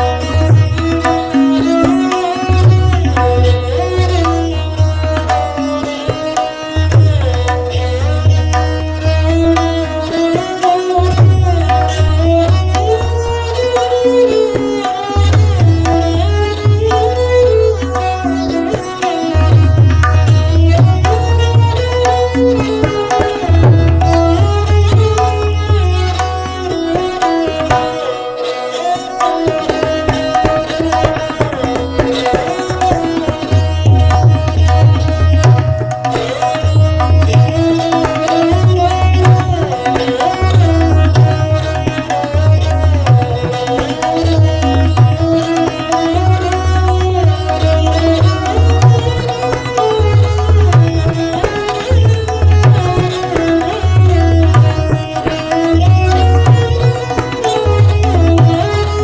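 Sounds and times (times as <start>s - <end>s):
devotional melody: 0.0s - 59.0s.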